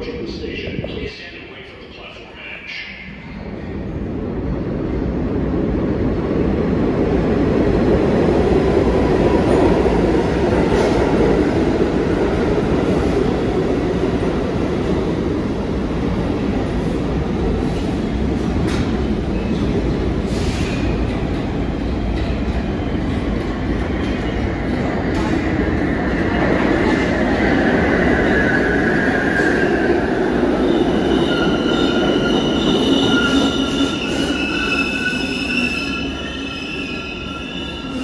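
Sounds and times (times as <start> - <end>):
subway train rumble: 0.0 - 38.0.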